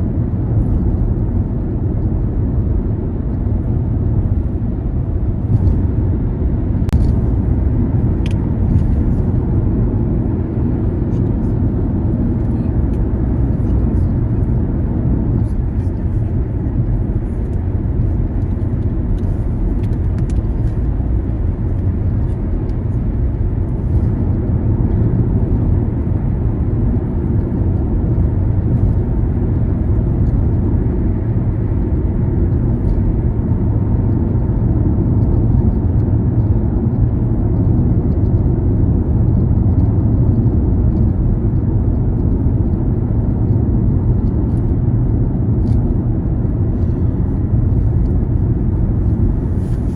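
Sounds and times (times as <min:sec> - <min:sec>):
car engine and tyre noise: 0:00.0 - 0:49.9.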